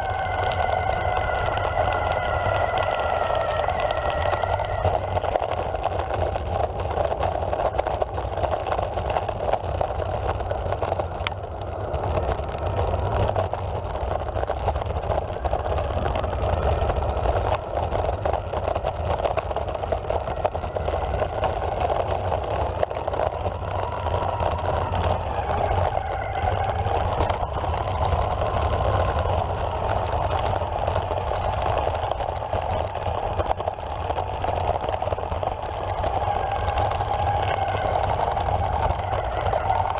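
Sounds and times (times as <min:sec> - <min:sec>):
faint motor whine: 0:00.0 - 0:39.9
skateboard wheels rumbling on dirt: 0:00.0 - 0:39.9.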